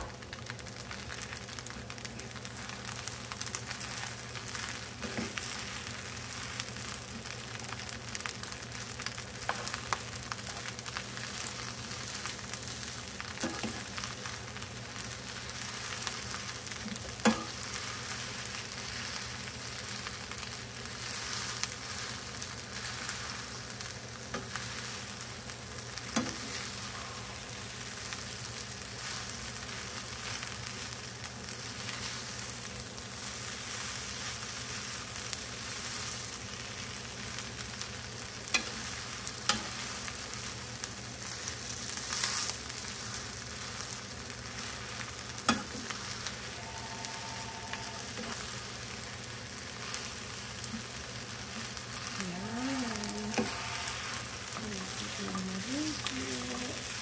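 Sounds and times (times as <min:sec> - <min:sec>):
rice sizzling in a frying pan: 0:00.0 - 0:57.0.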